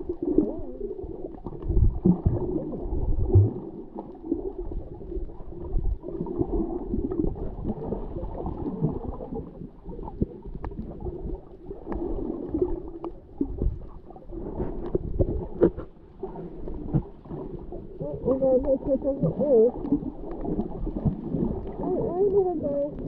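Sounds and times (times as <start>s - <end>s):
muffled underwater gurgle: 0.0s - 23.0s.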